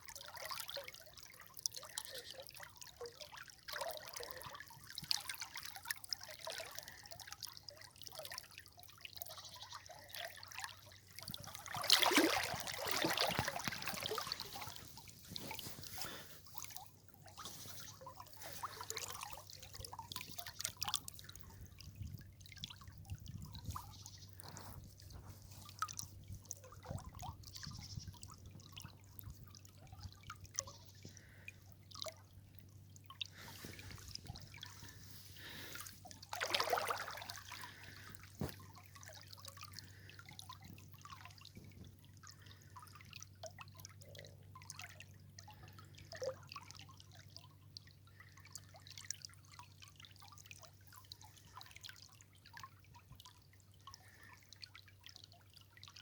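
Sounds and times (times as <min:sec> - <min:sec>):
river water trickling: 0:00.0 - 0:56.0.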